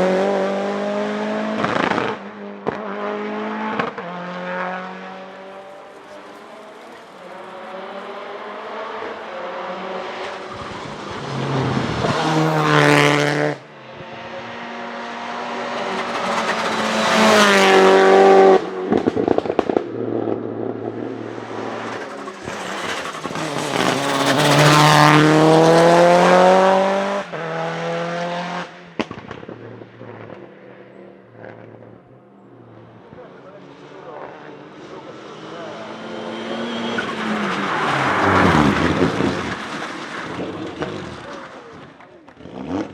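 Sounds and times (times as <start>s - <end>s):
car engine accelerating hard: 0.0s - 30.6s, 31.2s - 42.9s.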